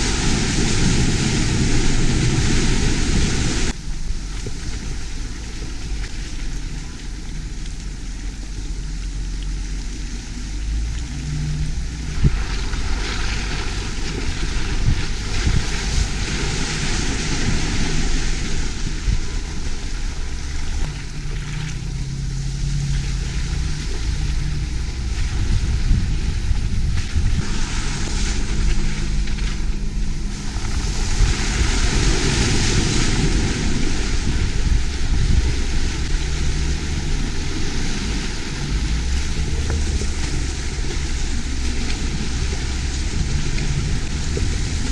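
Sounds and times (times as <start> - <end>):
vehicle engine rumble: 0.0 - 44.9
wind and tyre noise: 0.0 - 44.9.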